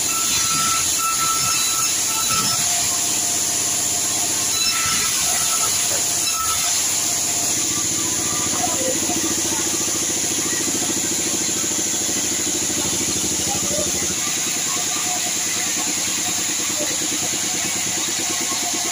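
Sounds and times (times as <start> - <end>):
sawmill engine humming: 0.0 - 18.9.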